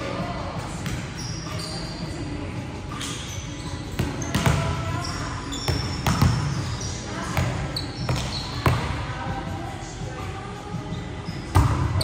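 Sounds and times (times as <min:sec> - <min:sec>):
sneakers squeaking on court: 0:00.6 - 0:09.0, 0:10.8 - 0:12.0.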